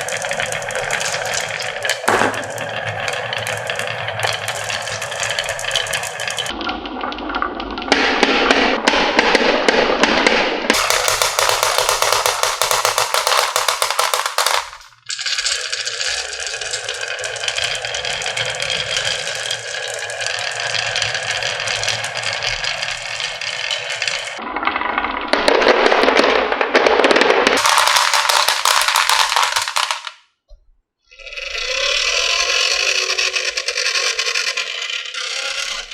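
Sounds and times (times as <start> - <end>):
marbles rolling on wooden run: 0.0 - 6.6, 10.7 - 30.3, 31.2 - 35.9.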